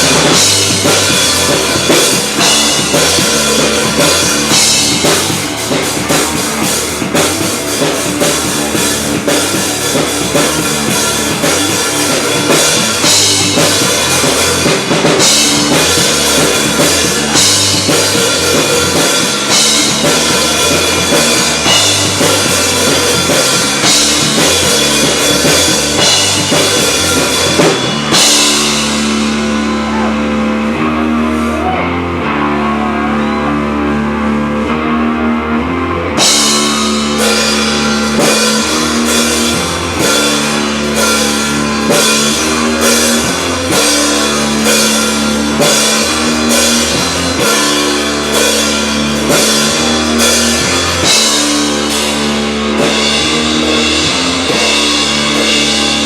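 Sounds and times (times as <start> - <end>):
drum kit beat: 0.0 - 56.0
rock guitar chords: 0.0 - 56.0.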